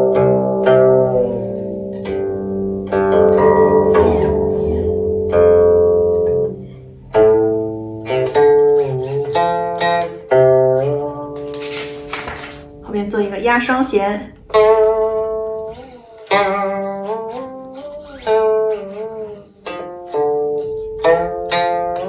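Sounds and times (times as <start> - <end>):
guqin plucked notes: 0.0 - 13.4, 14.1 - 22.0.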